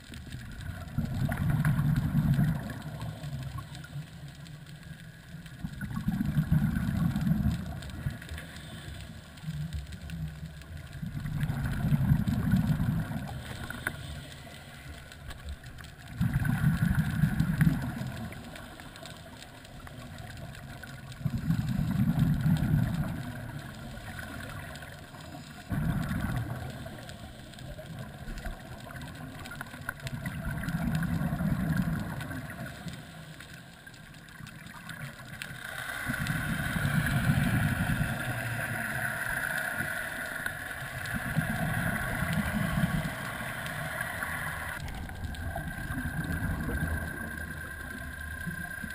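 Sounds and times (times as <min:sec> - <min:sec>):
faint steady hiss: 0:00.0 - 0:48.9
underwater regulator exhaust bubbles: 0:00.0 - 0:48.9.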